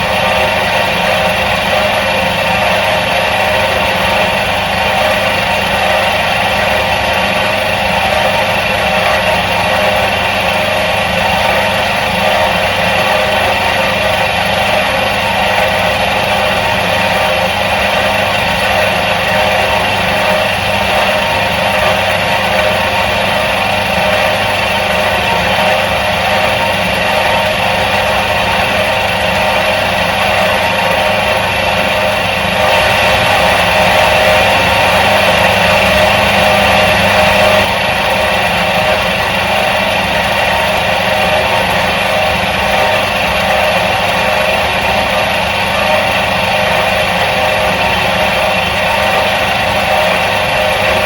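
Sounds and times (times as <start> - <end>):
washing machine motor humming: 0.0 - 51.0.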